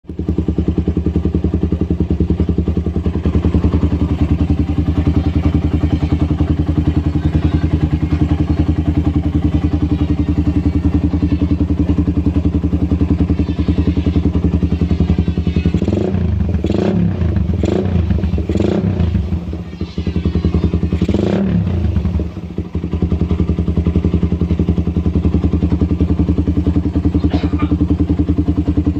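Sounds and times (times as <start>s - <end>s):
motorcycle engine idling: 0.0s - 28.9s
motorcycle throttle blips: 0.2s - 28.9s.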